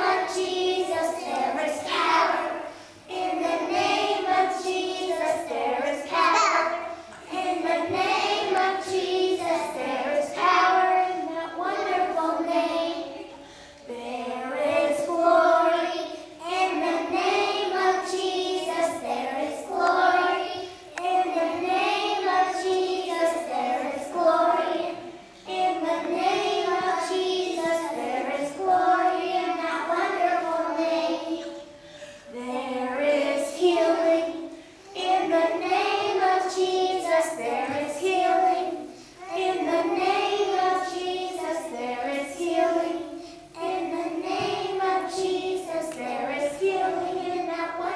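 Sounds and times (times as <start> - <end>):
children singing: 0.0 - 47.9.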